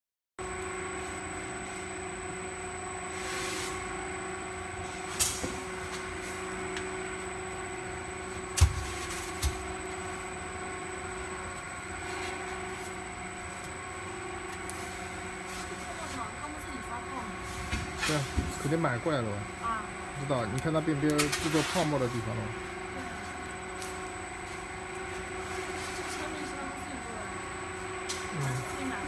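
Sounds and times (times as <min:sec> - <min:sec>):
machine humming: 0:00.4 - 0:29.0.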